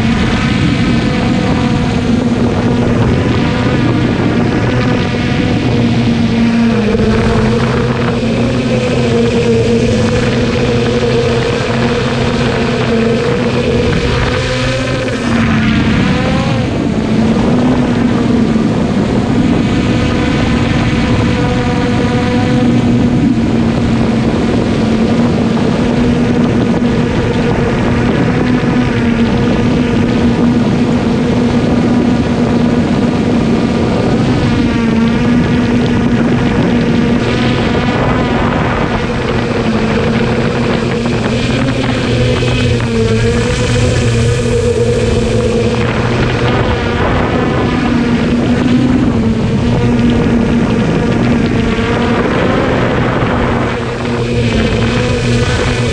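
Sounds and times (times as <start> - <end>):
drone motors and propellers whining: 0.0 - 55.9.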